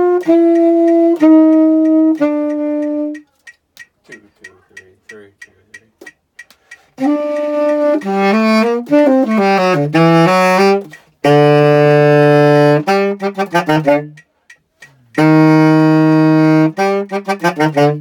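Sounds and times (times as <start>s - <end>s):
tenor saxophone: 0.0s - 3.3s, 6.8s - 18.0s.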